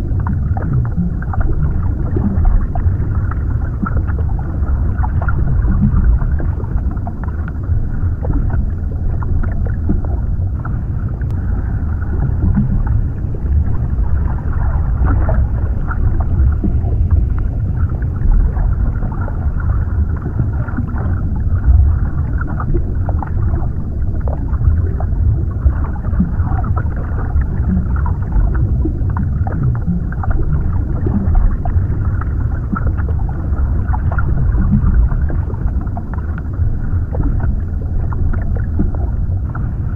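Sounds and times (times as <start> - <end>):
small underwater crackles: 0.0 - 39.9
underwater low rumble: 0.0 - 39.9.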